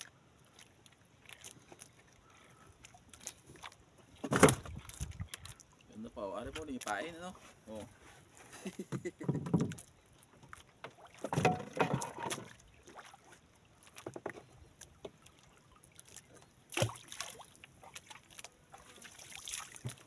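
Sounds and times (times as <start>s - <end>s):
water lapping at hull: 0.0s - 20.0s.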